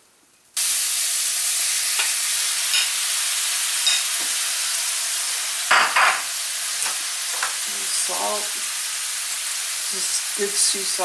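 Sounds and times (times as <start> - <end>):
meat sizzling in hot oil: 0.6 - 11.0.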